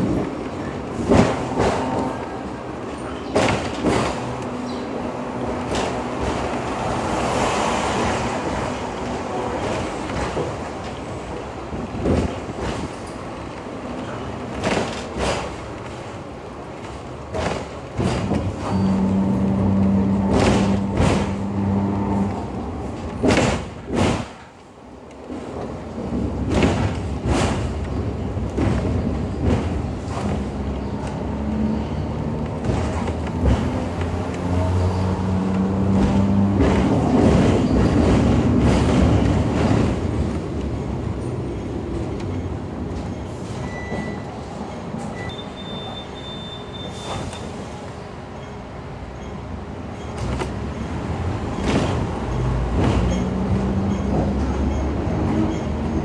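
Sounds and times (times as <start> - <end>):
tram motor hum: 0.0 - 56.0
tram rumbling and rattling: 0.0 - 56.0.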